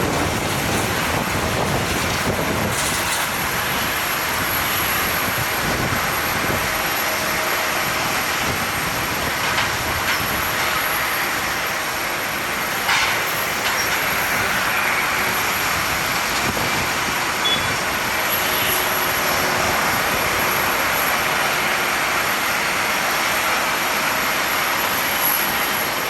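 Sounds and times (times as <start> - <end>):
wind noise: 0.0 - 21.8
jet engines rushing and whining: 0.0 - 26.0.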